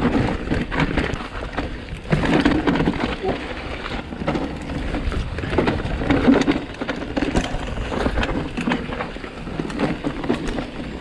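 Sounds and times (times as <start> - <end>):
bike clicking and rattling: 0.0 - 11.0
tyres rumbling on dirt: 0.0 - 11.0
wind on microphone: 0.0 - 11.0.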